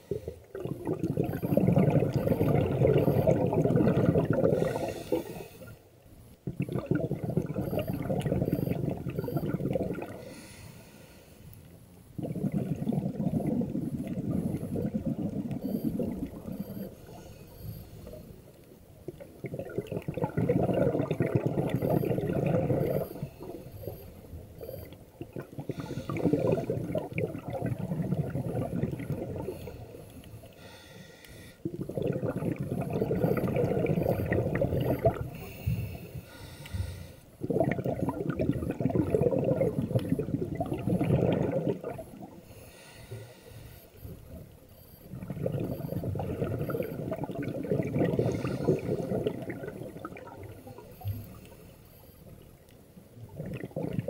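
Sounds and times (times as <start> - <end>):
exhaled bubbles underwater: 0.0 - 10.4, 12.1 - 30.7, 31.6 - 43.4, 44.0 - 51.6, 52.2 - 54.0
diver breathing through a regulator: 1.2 - 5.8, 6.7 - 11.6, 12.2 - 18.5, 20.6 - 27.2, 28.0 - 40.0, 40.6 - 52.2.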